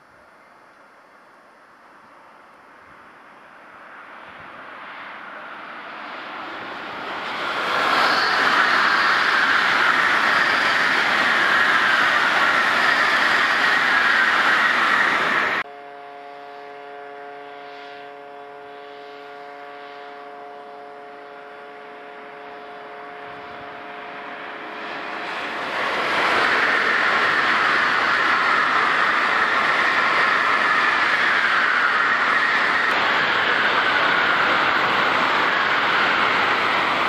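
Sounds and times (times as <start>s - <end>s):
bullet train passing: 0.0s - 37.0s.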